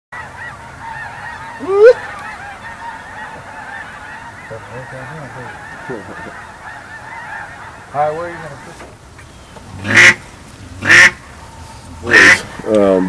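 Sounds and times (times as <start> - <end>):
flock of waterfowl calling: 0.2 - 13.0
loud rising bird call: 0.2 - 13.0.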